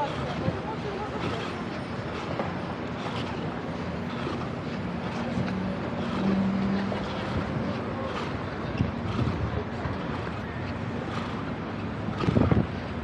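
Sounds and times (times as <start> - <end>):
city street noise: 0.0 - 13.0
vehicle engine humming: 0.0 - 13.0.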